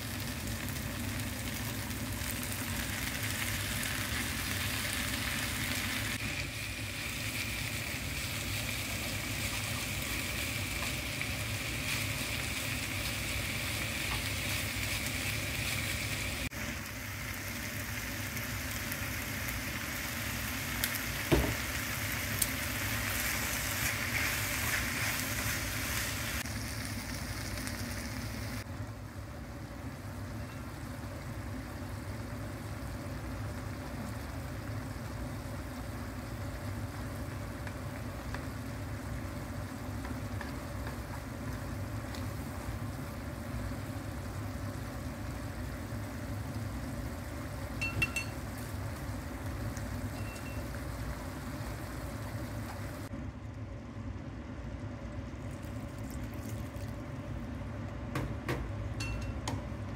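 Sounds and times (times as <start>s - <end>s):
food sizzling in a frying pan: 0.0s - 53.1s
sauce simmering: 0.0s - 59.9s.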